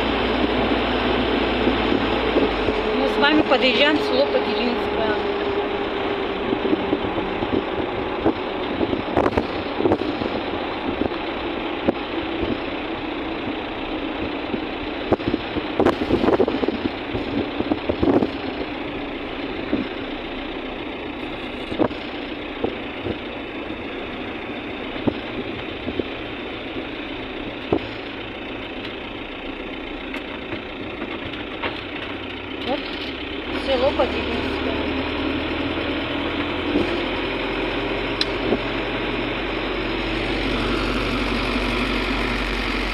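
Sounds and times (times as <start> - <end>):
car engine: 0.0 - 42.9
road noise from inside a car: 0.0 - 42.9.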